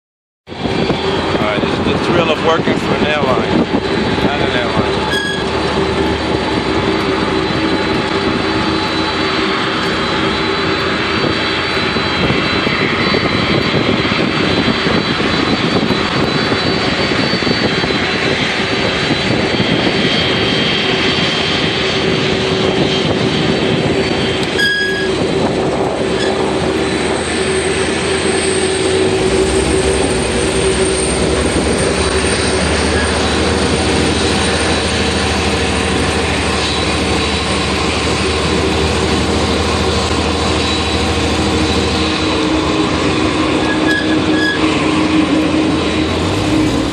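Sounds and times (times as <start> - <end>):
deep rumble: 0.5 - 46.9
jet engines whining: 0.5 - 46.9.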